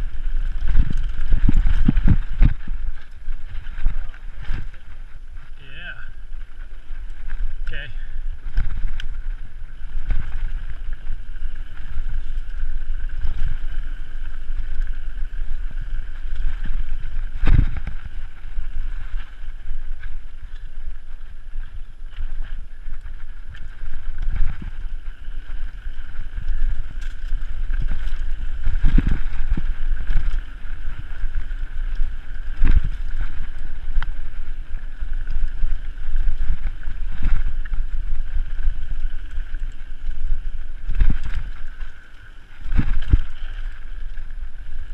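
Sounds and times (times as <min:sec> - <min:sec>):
bike tyres rattling on rough ground: 0:00.0 - 0:44.9
wind rush on microphone: 0:00.0 - 0:44.9.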